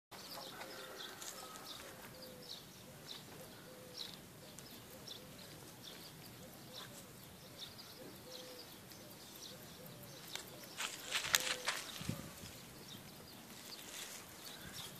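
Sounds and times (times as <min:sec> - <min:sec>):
birds chirping: 0:00.1 - 0:14.9
faint low bird calls: 0:00.1 - 0:14.9.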